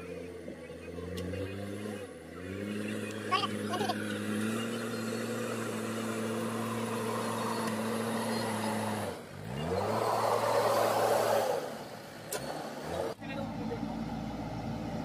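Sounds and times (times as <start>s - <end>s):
diesel engine running and revving: 0.0s - 15.0s.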